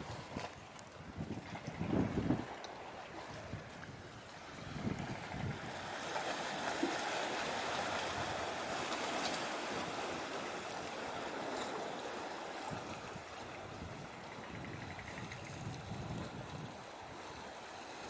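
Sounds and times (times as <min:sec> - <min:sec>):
sea water rushing: 0:00.0 - 0:18.0.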